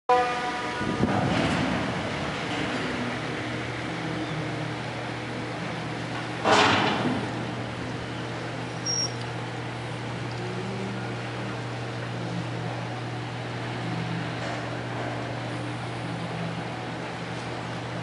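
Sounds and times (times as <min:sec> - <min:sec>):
low machinery hum: 0:00.1 - 0:18.0
rushing background noise: 0:00.4 - 0:18.0.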